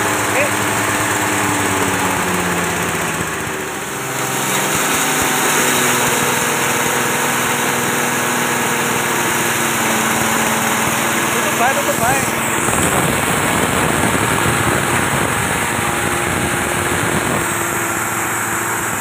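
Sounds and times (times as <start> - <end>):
grinder grinding dry material: 0.0 - 19.0
small petrol engine running: 0.0 - 19.0.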